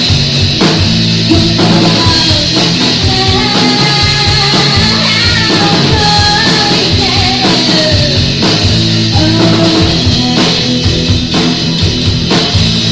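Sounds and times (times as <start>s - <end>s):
drum kit hitting: 0.0s - 12.9s
live rock band playing: 0.0s - 12.9s.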